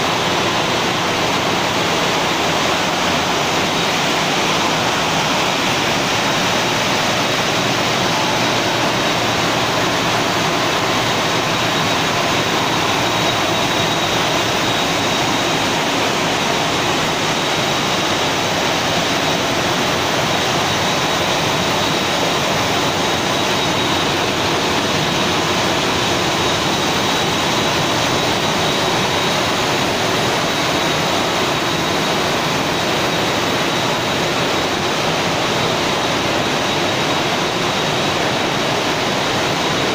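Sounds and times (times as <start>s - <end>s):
conveyor machinery rushing: 0.0s - 39.9s
faint high whine: 0.0s - 39.9s
water spraying: 0.0s - 39.9s.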